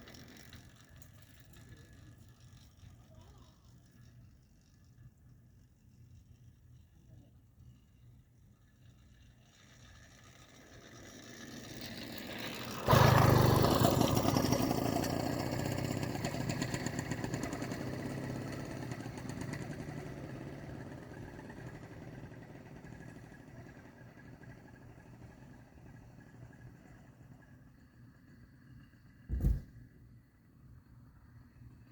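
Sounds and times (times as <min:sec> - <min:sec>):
small two-stroke engine: 0:00.0 - 0:05.2, 0:07.9 - 0:29.6.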